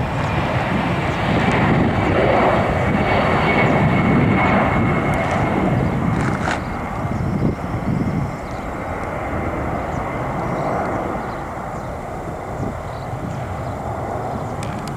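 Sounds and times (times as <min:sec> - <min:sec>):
jet airliner engines rumbling: 0:00.0 - 0:14.9.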